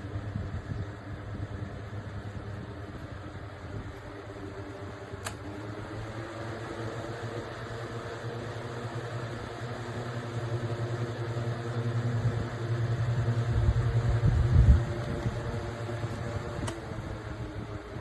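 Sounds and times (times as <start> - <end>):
window fan motor humming: 0.0 - 18.0.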